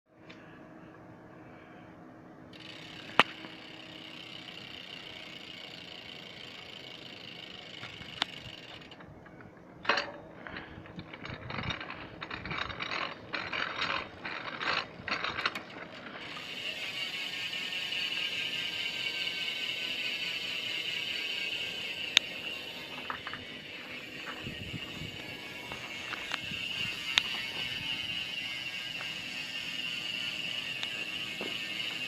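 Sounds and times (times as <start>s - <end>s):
bicycle hub ratcheting: 2.5s - 9.1s, 9.8s - 32.0s.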